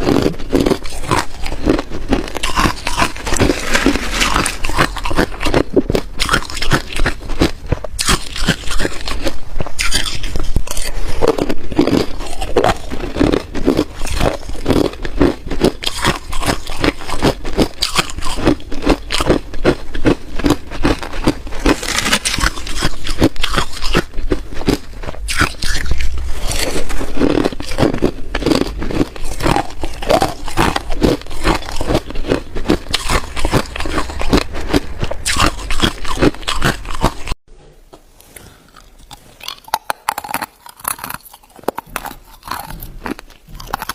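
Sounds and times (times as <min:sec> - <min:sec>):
ice being chewed: 0:00.0 - 0:37.4, 0:38.2 - 0:43.9.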